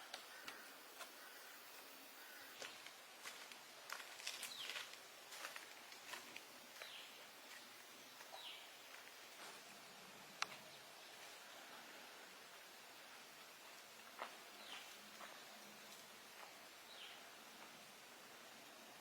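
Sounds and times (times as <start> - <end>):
faint outdoor ambience: 0.0 - 19.0.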